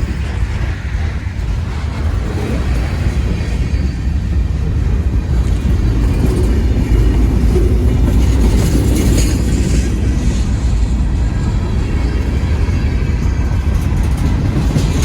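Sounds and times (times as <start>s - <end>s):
train wheels rumbling on rails: 0.0s - 15.0s
wheel squeal and clatter: 0.0s - 15.0s.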